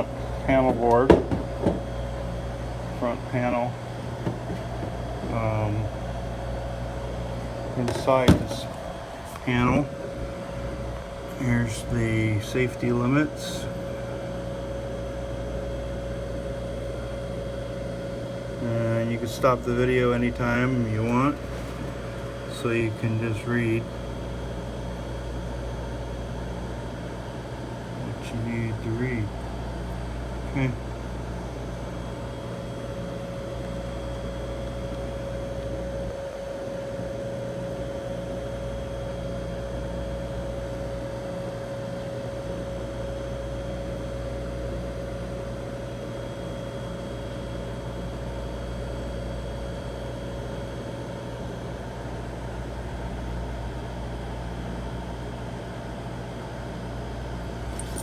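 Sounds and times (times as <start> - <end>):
ice machine humming: 0.0 - 46.3, 57.4 - 58.0.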